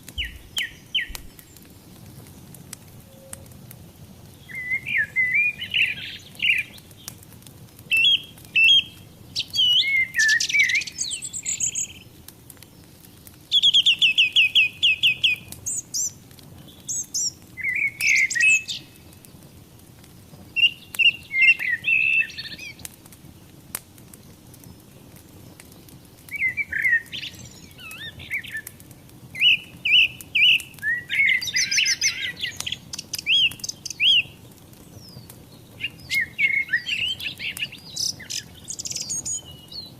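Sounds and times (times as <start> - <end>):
songbirds singing: 0.0 - 2.4, 3.0 - 23.5, 24.1 - 39.9
fire crackling: 0.0 - 39.9.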